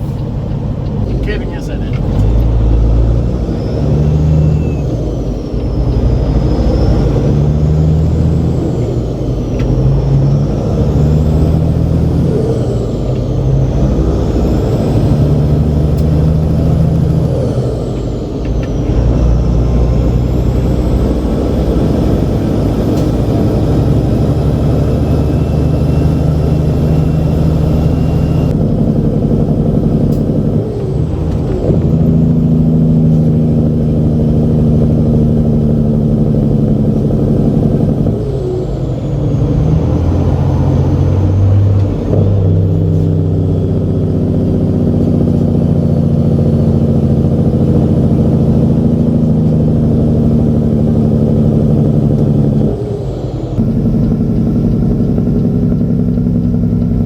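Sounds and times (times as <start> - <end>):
diesel truck engine pulling: 0.0 - 57.0.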